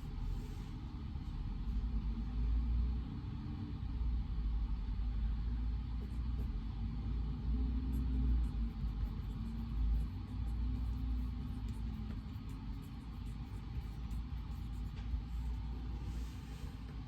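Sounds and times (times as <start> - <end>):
low rumble of white noise: 0.0 - 17.0.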